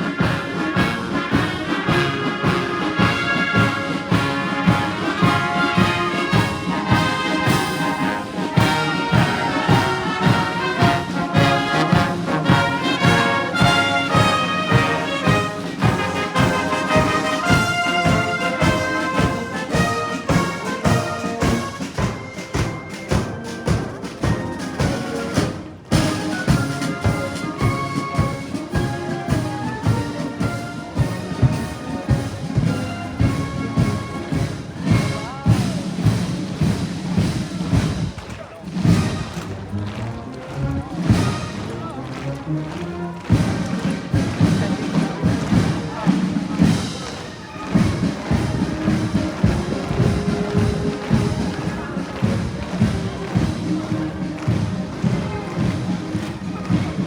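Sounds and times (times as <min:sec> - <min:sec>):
steady drum beat: 0:00.0 - 0:39.5, 0:43.1 - 0:57.0
brass instruments: 0:00.0 - 0:57.0.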